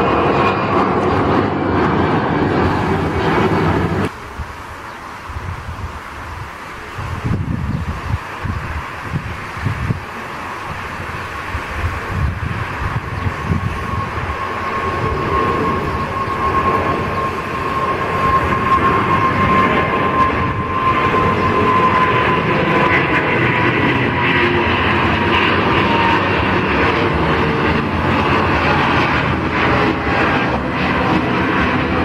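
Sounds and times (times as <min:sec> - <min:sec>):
high jet fan whine: 0:00.0 - 0:32.0
jet airliner roaring overhead: 0:00.0 - 0:32.0.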